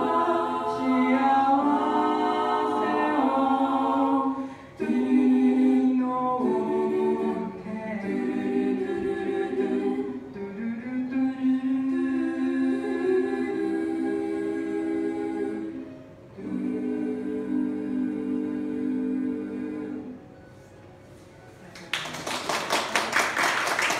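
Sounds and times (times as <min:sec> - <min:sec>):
a cappella group singing: 0:00.0 - 0:20.4.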